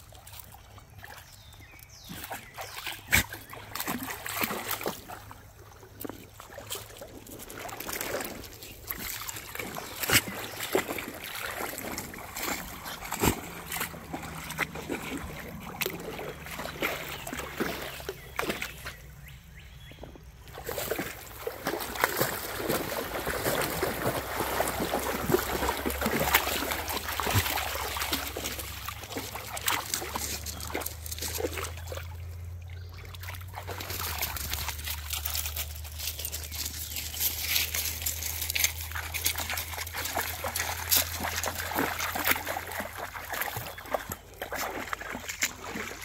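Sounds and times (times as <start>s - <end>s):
dogs splashing through water: 0.0s - 46.0s.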